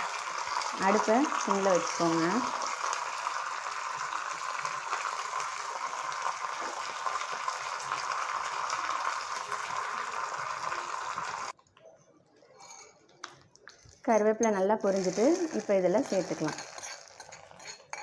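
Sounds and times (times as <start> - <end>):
hot oil sizzling: 0.0 - 11.6, 14.5 - 18.0.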